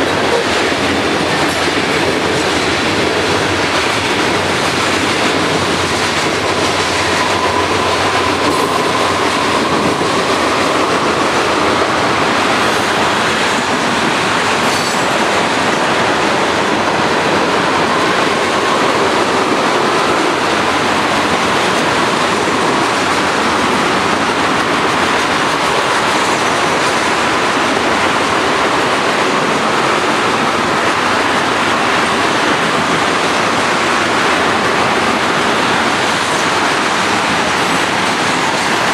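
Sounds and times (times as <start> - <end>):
train wheels rolling on rail: 0.0 - 38.9.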